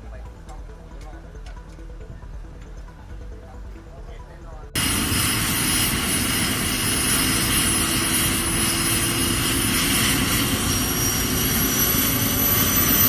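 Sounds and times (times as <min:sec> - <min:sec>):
helicopter rotor noise: 0:00.0 - 0:13.0
helicopter turbine whine: 0:00.0 - 0:13.0.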